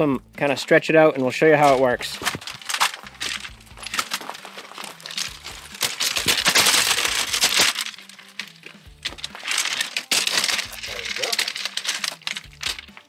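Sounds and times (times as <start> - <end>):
aluminium ladder clicking and rattling: 0.4 - 13.0
ladder scraping on gravel: 0.4 - 13.0.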